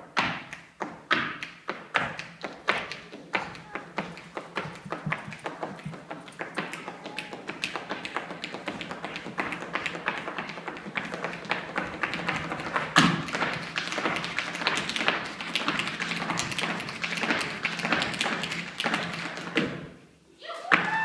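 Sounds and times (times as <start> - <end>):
hard-shoe dancing taps: 0.0 - 20.0
dancer stamping: 0.1 - 20.0.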